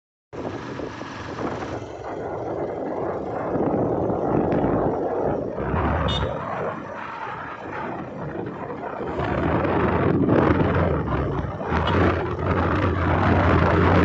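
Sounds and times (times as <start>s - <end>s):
motorcycle road and engine noise: 0.3s - 14.0s
wind rushing over microphone: 0.4s - 14.0s.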